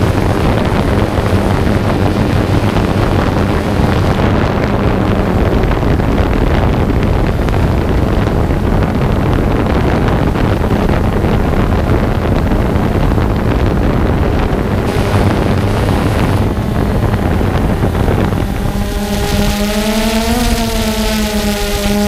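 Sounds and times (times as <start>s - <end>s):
loud rumbling noise: 0.0s - 22.0s
motor hum: 0.0s - 22.0s.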